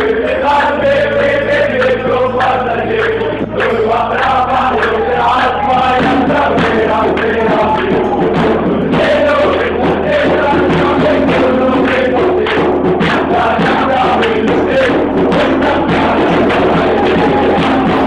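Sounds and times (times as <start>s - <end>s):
crowd chanting in unison: 0.0s - 18.0s
steady percussive beat: 0.0s - 18.0s.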